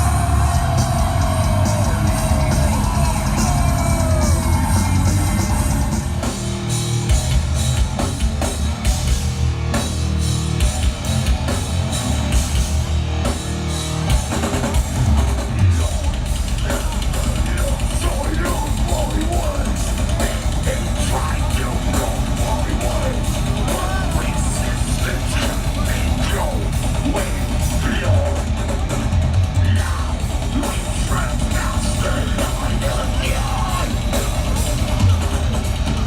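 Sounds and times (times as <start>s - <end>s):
live heavy rock band: 0.0s - 36.0s
pounding drum kit: 0.0s - 36.0s.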